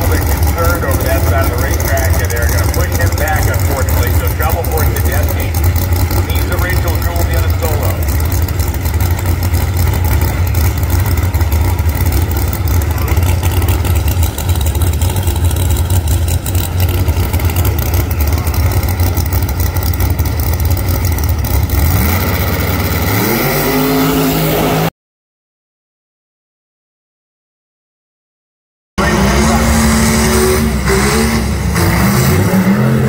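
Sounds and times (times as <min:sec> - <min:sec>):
car engine idling and revving: 0:00.0 - 0:24.9, 0:29.0 - 0:33.0.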